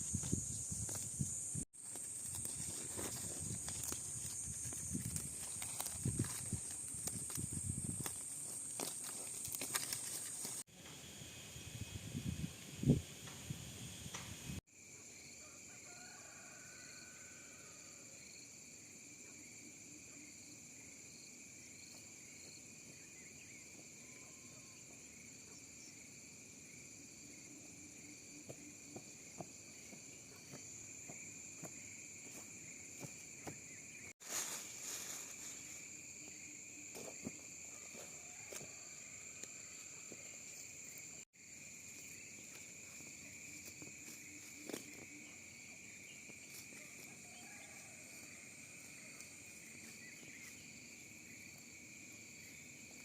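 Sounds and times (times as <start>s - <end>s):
insects chirping: 0.0s - 53.0s.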